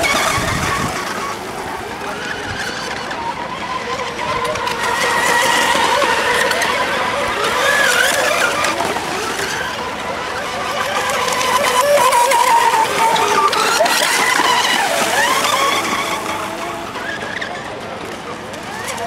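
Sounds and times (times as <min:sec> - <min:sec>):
model boat motors whining: 0:00.0 - 0:19.0.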